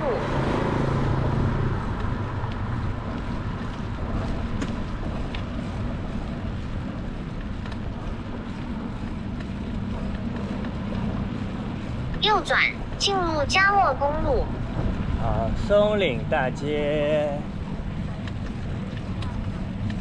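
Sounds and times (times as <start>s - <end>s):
low road rumble: 0.0s - 20.0s.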